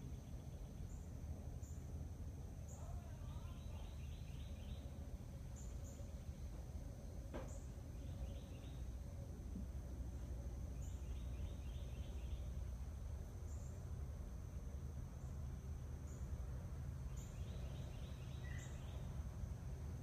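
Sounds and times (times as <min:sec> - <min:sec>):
faint chirping: 0:00.0 - 0:09.3, 0:10.0 - 0:20.0.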